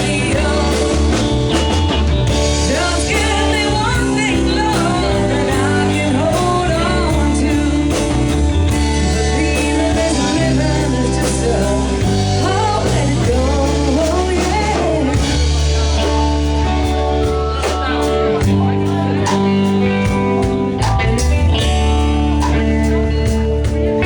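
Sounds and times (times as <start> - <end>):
person singing: 0.0 - 19.8
bass guitar: 0.0 - 24.0
drum kit with cymbals: 0.0 - 24.0
electric guitar: 0.0 - 24.0
keyboard: 0.0 - 24.0.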